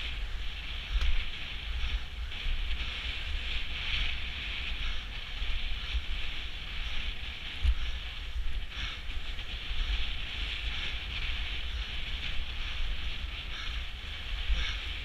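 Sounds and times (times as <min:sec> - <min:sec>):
skate wheels rolling on asphalt: 0:00.0 - 0:15.0
wind buffeting microphone: 0:00.0 - 0:15.0.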